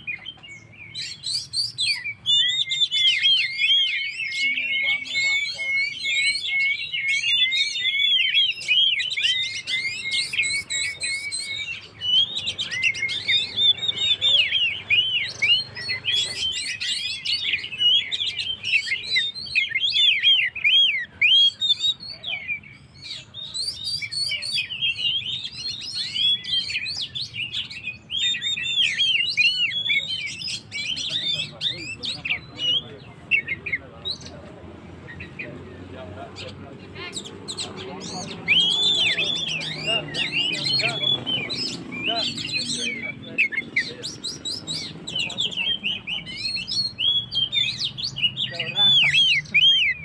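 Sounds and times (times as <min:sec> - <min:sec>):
magpie-robin singing: 0:00.0 - 0:50.0.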